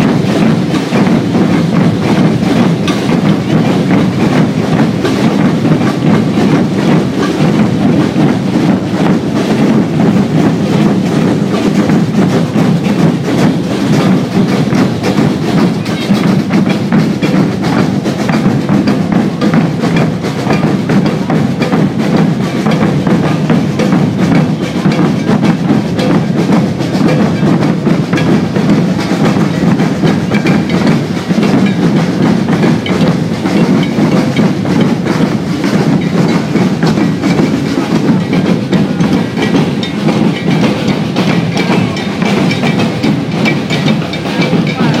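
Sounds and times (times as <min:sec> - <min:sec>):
bass drums beating rhythm: 0:00.0 - 0:45.0.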